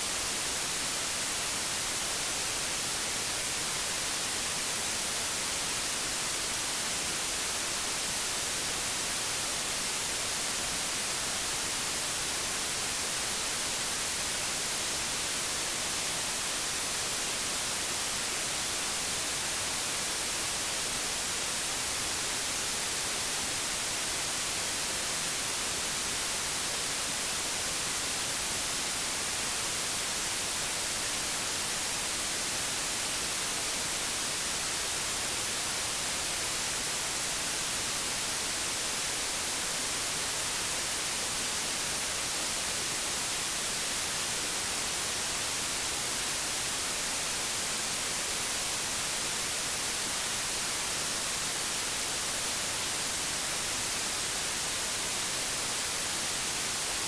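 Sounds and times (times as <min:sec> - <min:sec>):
television static hiss: 0:00.0 - 0:57.0.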